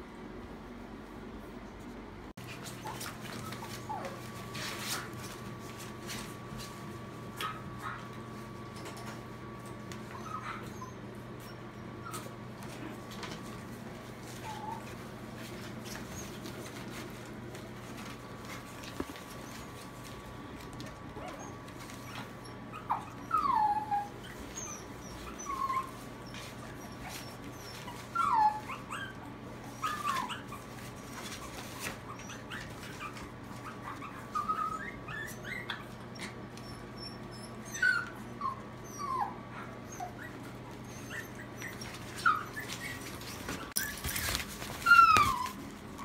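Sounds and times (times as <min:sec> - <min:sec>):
puppies whining: 0:02.4 - 0:46.0.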